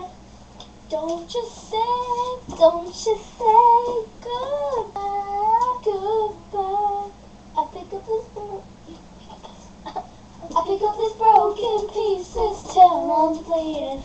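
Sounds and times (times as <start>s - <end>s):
girls singing unaccompanied: 0.9s - 8.7s, 10.4s - 14.0s.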